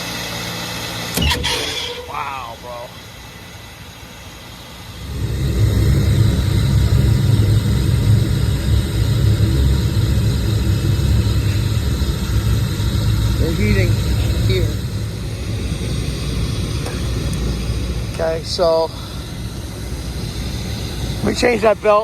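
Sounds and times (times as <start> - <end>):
burners rumbling: 0.0 - 22.0
gas burners lighting: 0.0 - 22.0.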